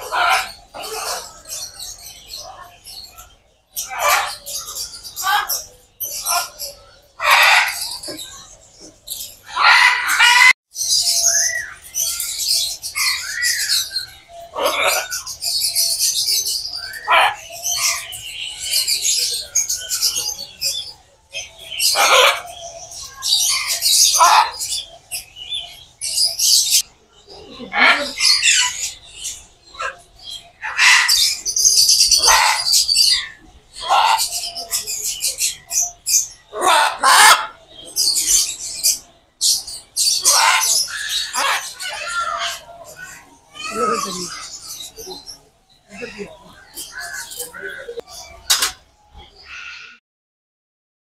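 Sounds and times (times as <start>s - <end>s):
birds chirping and calling: 0.0s - 50.0s.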